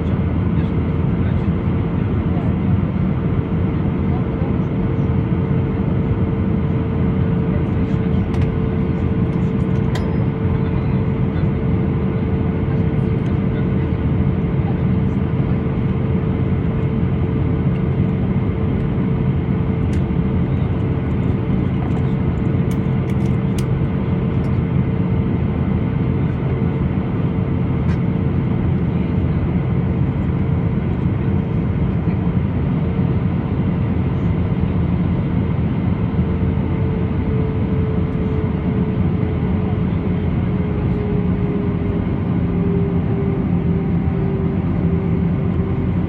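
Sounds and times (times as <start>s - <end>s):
aircraft cabin engine drone: 0.0s - 46.0s
constant hum: 0.0s - 46.0s.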